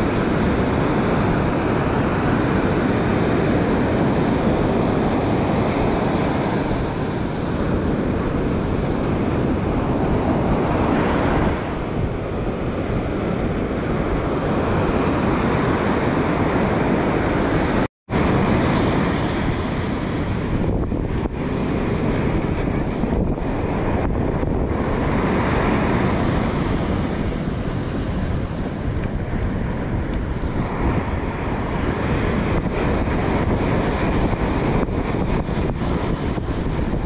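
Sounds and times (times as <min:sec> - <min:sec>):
ocean surf breaking: 0:00.0 - 0:37.0
wind on microphone: 0:00.0 - 0:37.0.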